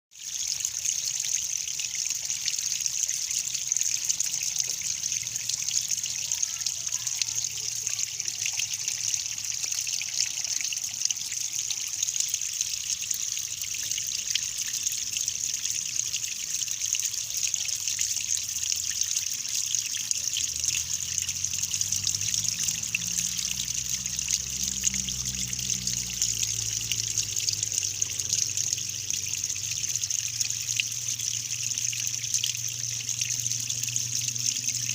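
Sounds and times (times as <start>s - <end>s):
water trickling: 0.1s - 34.9s.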